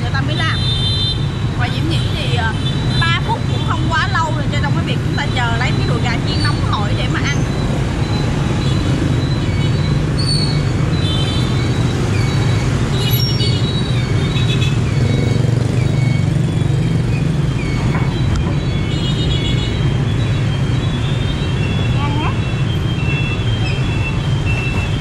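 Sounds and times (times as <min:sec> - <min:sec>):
street traffic engine hum: 0:00.0 - 0:25.0.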